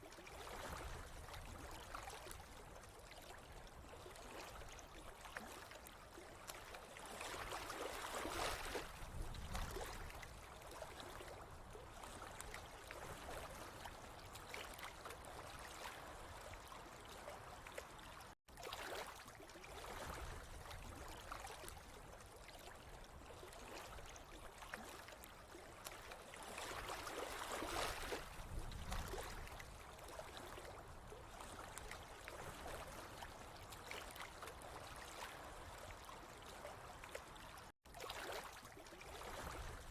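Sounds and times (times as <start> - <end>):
water trickling and gurgling: 0.0 - 39.9.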